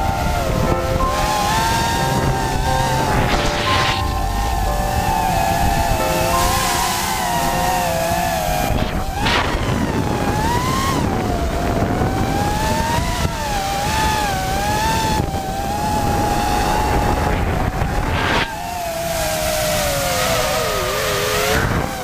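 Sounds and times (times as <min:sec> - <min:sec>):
drone motors whining: 0:00.0 - 0:22.0
wind noise on microphone: 0:00.0 - 0:22.0.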